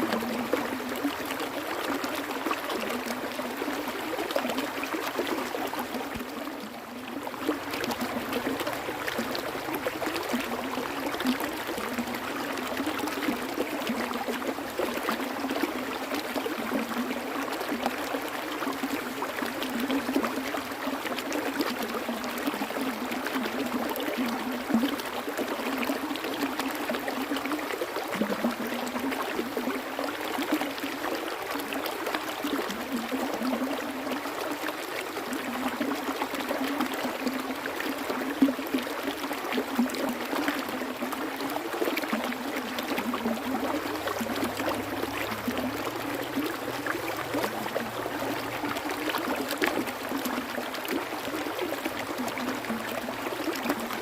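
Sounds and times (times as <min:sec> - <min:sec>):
stream water flowing: 0:00.0 - 0:54.0
water gurgles and splashes: 0:00.0 - 0:54.0.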